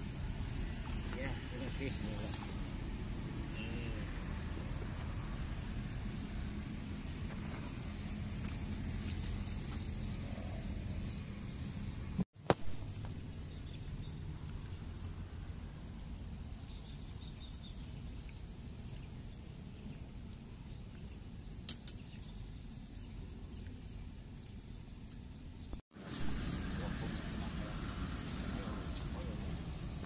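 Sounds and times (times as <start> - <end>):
outdoor ambient noise: 0.0 - 30.0.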